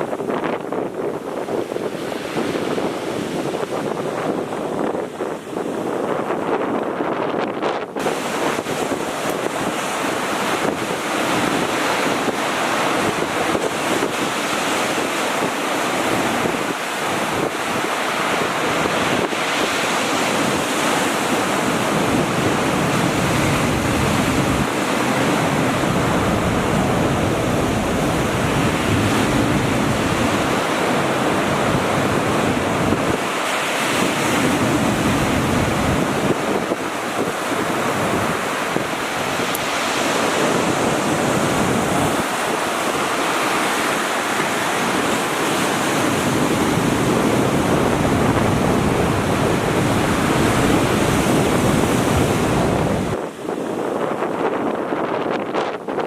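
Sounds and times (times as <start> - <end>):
sea waves breaking: 0.0 - 56.0
wind buffeting microphone: 0.0 - 56.0.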